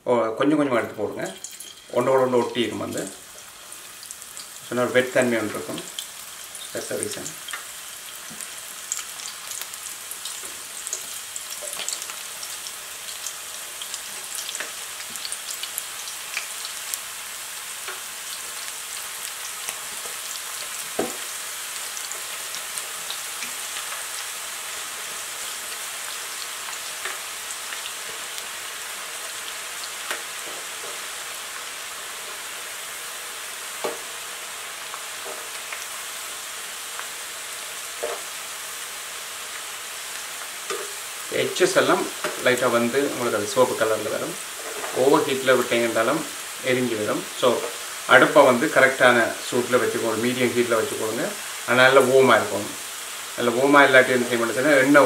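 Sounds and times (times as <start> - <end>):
oil sizzling with crackles: 0.4 - 55.0.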